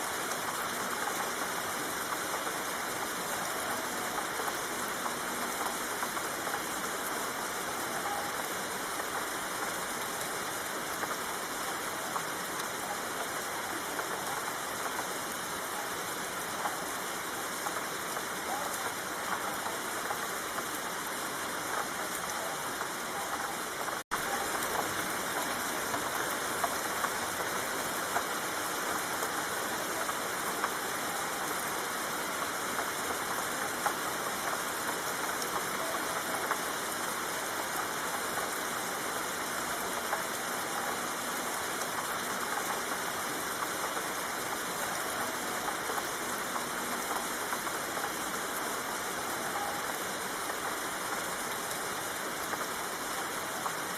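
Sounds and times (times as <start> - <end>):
steady rain pattering: 0.0 - 53.9.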